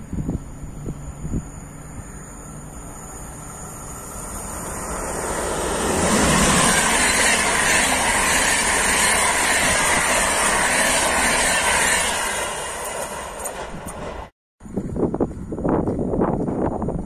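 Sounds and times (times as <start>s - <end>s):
train passing: 0.0s - 14.3s.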